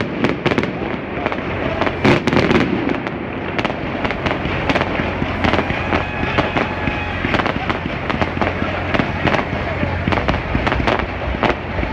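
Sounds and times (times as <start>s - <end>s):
fireworks bangs and crackling: 0.0s - 11.9s.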